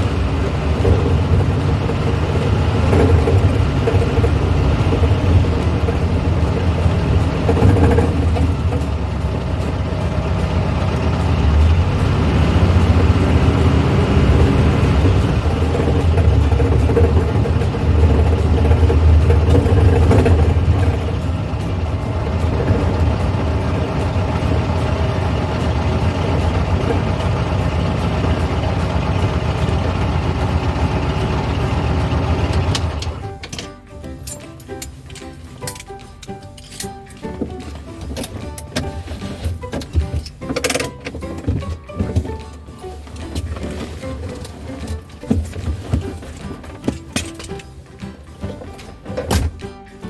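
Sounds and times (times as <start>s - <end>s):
car engine running: 0.0s - 33.7s, 34.4s - 49.5s.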